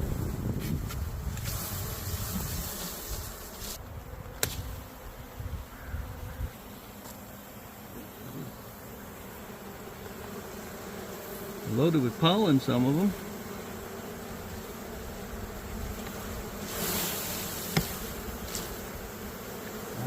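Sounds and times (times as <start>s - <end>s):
bee swarm buzzing: 0.0s - 20.0s.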